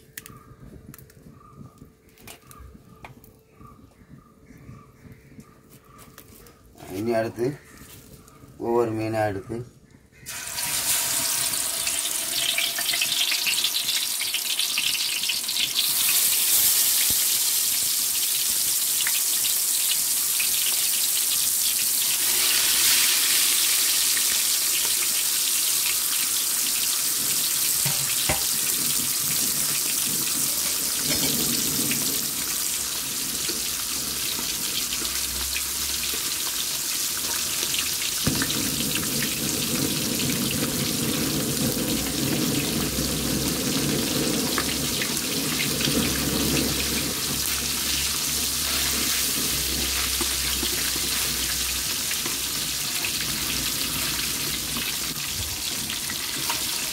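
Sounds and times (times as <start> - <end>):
fish sizzling in hot oil: 10.3 - 56.9.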